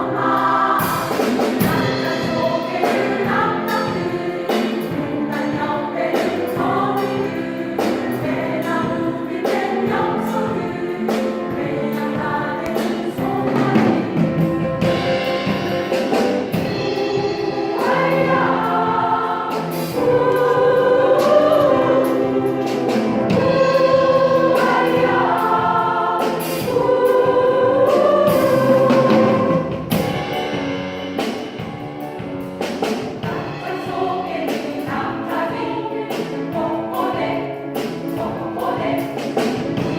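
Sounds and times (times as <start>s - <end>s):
choir singing: 0.0s - 31.7s, 32.8s - 39.9s
instrumental accompaniment: 0.0s - 39.9s.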